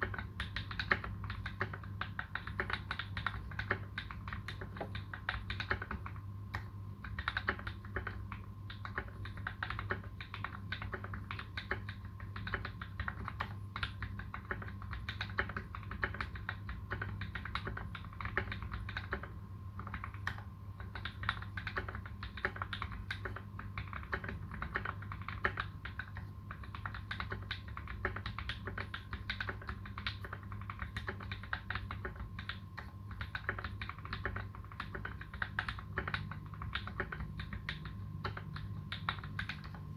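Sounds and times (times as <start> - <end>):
fast typing on mechanical keyboard: 0.0 - 39.9
steady low hum: 0.0 - 39.9.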